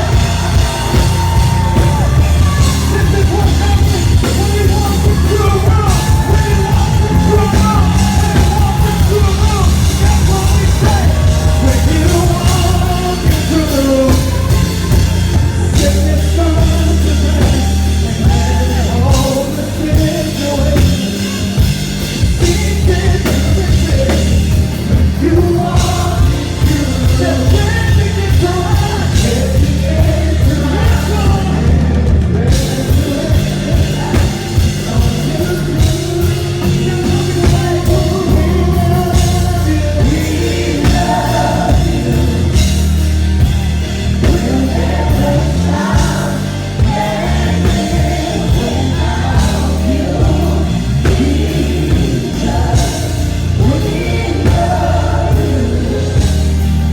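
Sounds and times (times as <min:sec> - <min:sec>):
band with bass and drums: 0:00.0 - 0:56.9
voices singing: 0:00.0 - 0:56.9.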